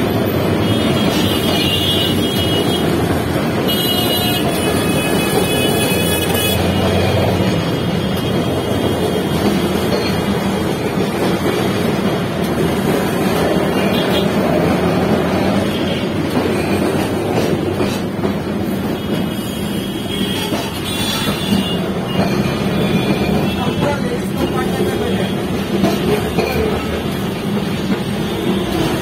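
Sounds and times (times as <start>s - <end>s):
street traffic: 0.0s - 29.0s
tram running noise: 0.0s - 29.0s.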